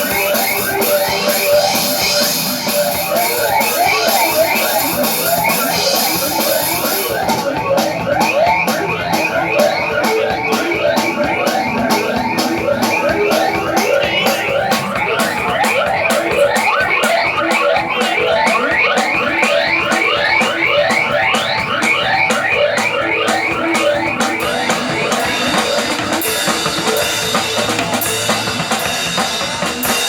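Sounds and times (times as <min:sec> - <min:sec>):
drum kit beat: 0:00.0 - 0:30.0
electric guitar: 0:00.0 - 0:30.0.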